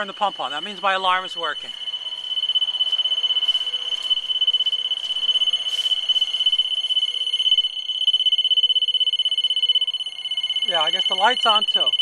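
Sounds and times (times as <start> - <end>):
high-pitched fluttering alarm tone: 0.0 - 12.0.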